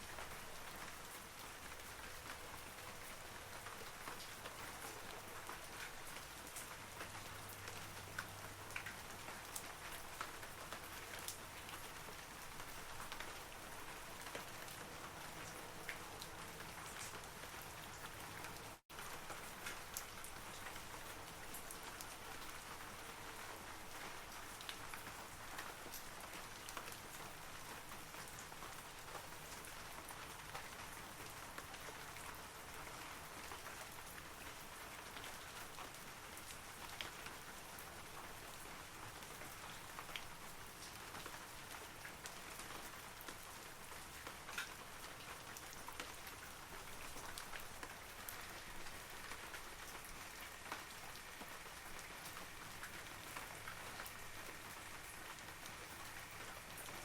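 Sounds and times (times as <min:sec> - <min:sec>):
rain falling on trees: 0:00.0 - 0:57.0.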